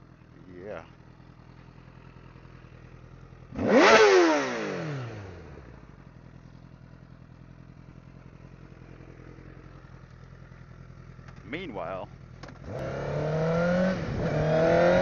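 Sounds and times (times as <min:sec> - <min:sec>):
motorcycle engine idling: 0:00.0 - 0:13.1.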